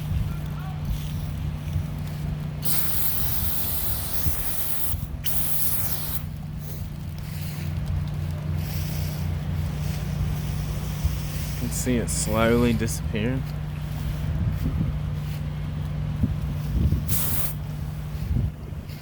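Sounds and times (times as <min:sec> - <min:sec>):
low hum: 0:00.0 - 0:19.0
sprayer hissing: 0:00.0 - 0:19.0.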